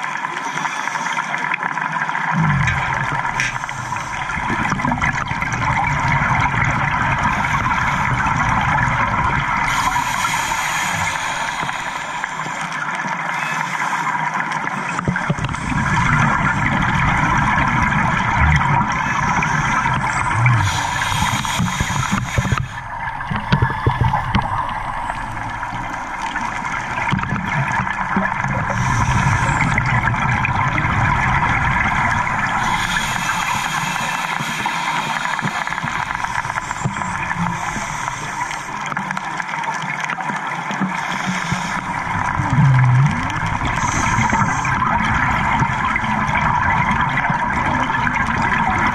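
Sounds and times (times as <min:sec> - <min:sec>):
underwater hiss and rumble: 0:00.0 - 0:48.9
diver exhaust bubbles gurgling: 0:01.3 - 0:48.9.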